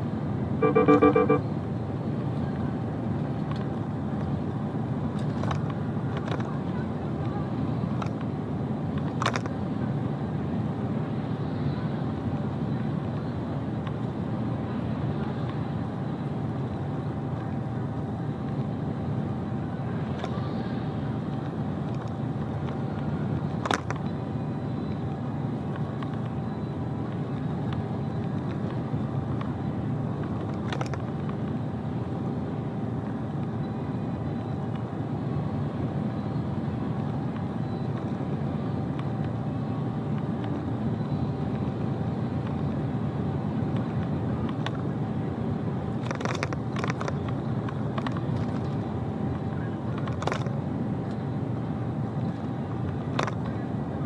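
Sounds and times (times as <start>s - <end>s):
truck engine and road rumble: 0.0s - 54.0s.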